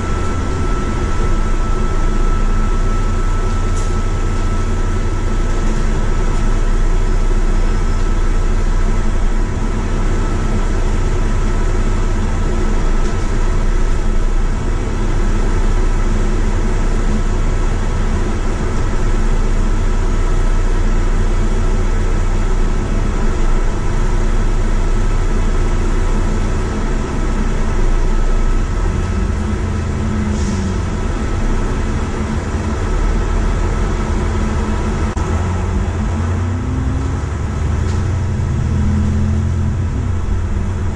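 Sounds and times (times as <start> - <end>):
bus engine and road noise: 0.0 - 40.9.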